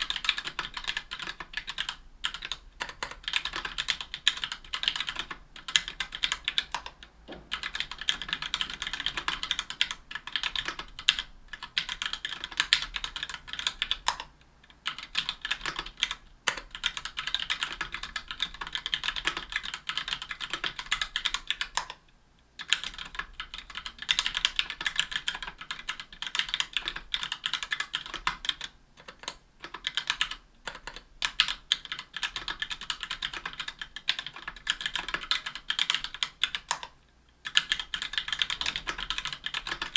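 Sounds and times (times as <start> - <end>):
fast typing on mechanical keyboard: 0.0 - 22.0, 22.6 - 39.9.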